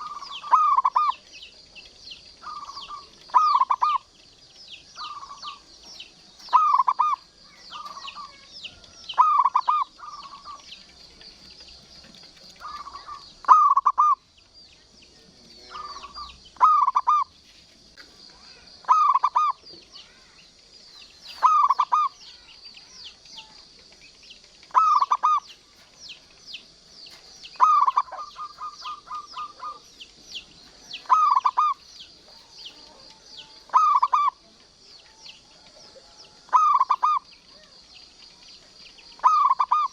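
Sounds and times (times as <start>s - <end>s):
dove cooing: 0.0s - 4.2s, 4.9s - 14.3s, 15.4s - 17.3s, 18.4s - 20.3s, 21.2s - 37.8s, 39.0s - 39.9s
high-pitched chirping: 0.0s - 14.4s, 15.5s - 17.4s, 18.2s - 39.9s.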